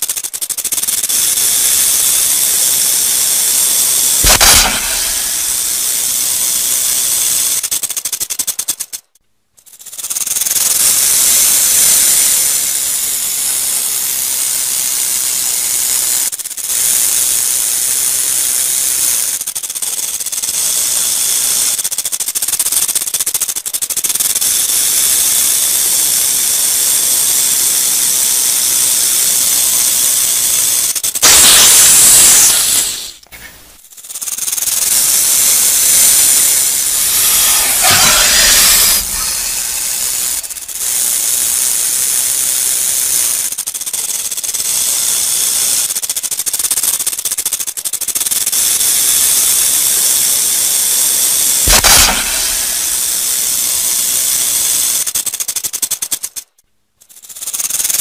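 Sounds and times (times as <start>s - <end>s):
rattlesnake tail rattle: 0.0s - 58.0s.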